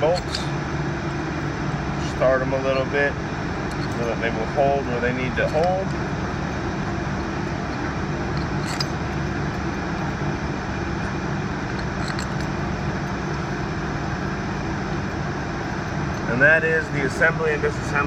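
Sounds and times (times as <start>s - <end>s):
workshop machinery humming: 0.0s - 18.0s.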